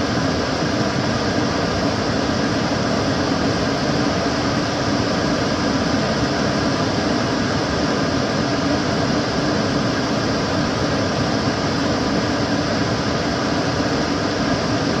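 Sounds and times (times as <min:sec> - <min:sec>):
extractor fan running: 0:00.0 - 0:15.0.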